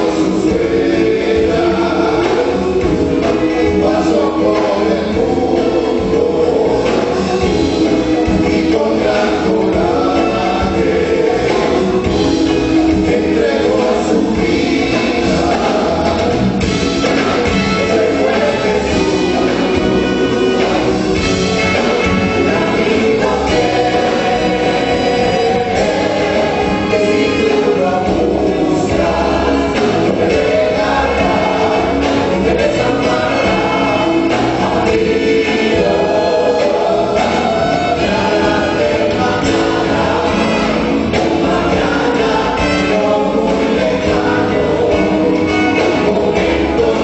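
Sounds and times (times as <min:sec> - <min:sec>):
group singing: 0:00.0 - 0:47.0
live band playing: 0:00.0 - 0:47.0.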